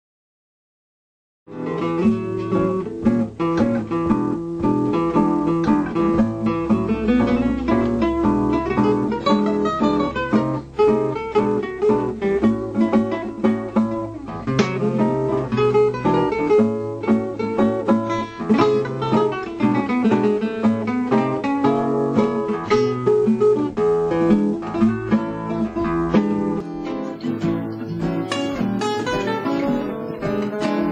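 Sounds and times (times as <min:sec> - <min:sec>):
jazz guitar music: 0:01.5 - 0:30.9.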